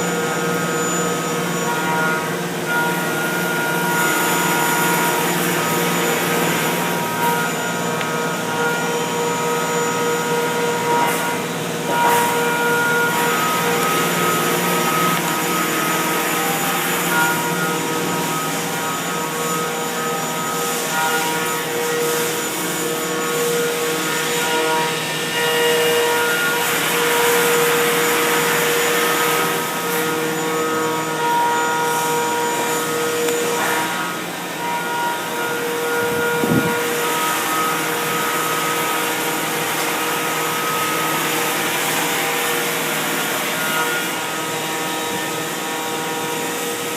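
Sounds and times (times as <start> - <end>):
milling machine cutting metal: 0.0 - 46.9
whining machine tones: 0.0 - 46.9.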